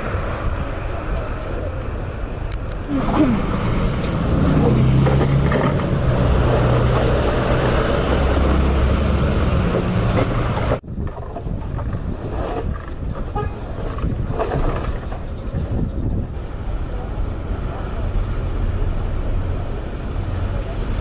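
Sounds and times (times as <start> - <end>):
vehicle engine humming: 0.0 - 21.0
wind rumbling on microphone: 0.0 - 21.0.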